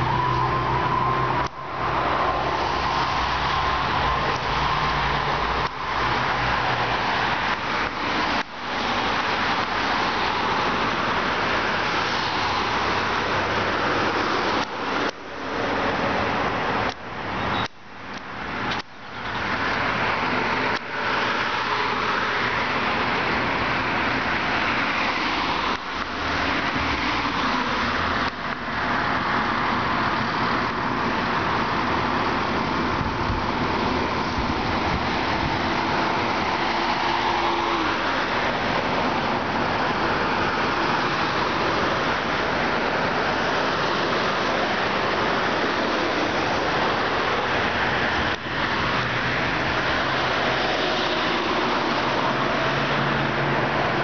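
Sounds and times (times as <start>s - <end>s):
traffic road noise: 0.0s - 54.0s.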